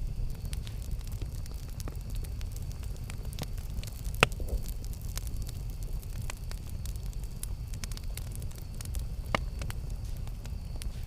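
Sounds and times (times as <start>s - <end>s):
campfire flame rumble: 0.0s - 11.0s
fire crackles: 0.0s - 11.0s.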